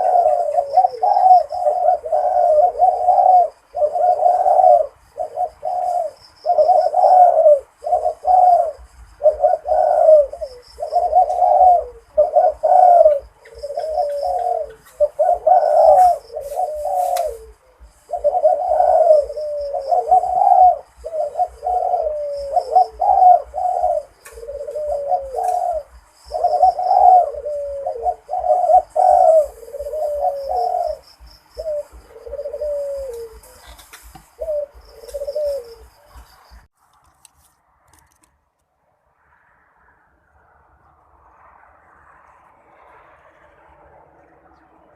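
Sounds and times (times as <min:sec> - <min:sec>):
dove cooing: 0:00.0 - 0:36.7.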